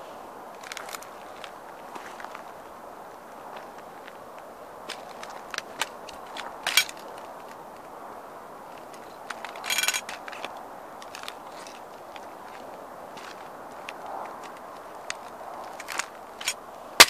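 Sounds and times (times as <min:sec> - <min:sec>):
plastic toy car crackling underfoot: 0:00.6 - 0:02.5, 0:03.5 - 0:07.9, 0:08.7 - 0:16.6
sneakers shifting on gravel: 0:00.6 - 0:07.6, 0:08.8 - 0:16.6.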